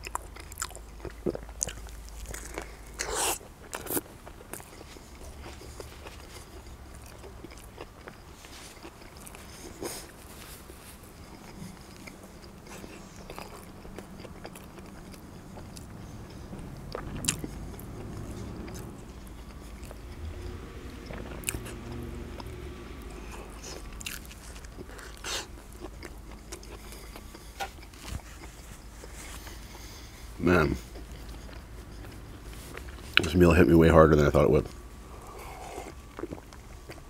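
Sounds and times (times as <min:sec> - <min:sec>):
person chewing food: 0:00.0 - 0:33.7, 0:34.3 - 0:37.0.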